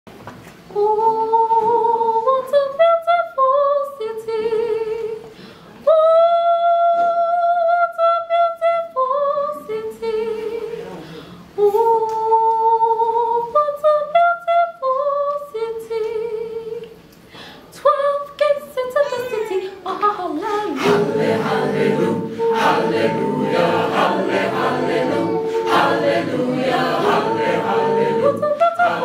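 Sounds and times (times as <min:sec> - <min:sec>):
woman singing a cappella: 0:00.7 - 0:11.0, 0:11.6 - 0:17.0, 0:17.7 - 0:29.0.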